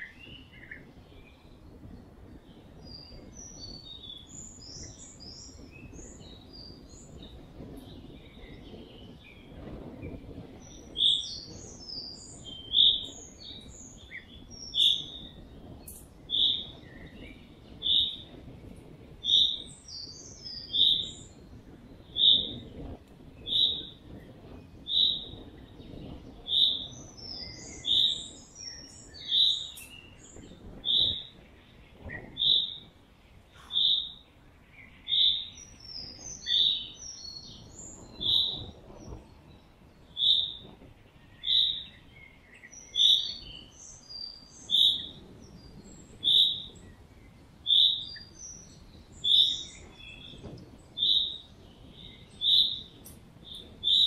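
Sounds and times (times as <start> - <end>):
bird chirps: 2.5 - 9.6, 10.6 - 18.5, 19.2 - 54.0.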